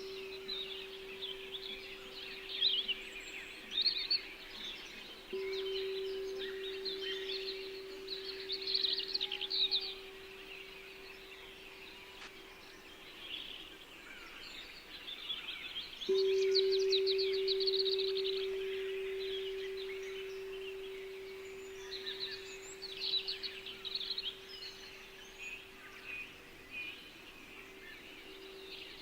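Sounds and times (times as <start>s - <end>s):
singing bowl ringing: 0.0s - 12.7s, 16.1s - 29.0s
small songbirds chirping: 0.0s - 29.0s.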